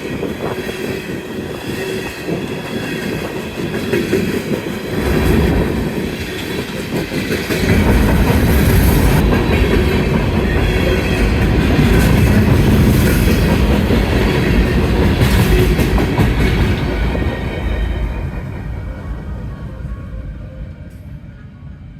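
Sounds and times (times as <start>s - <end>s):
freight train rolling past: 0.0s - 21.9s.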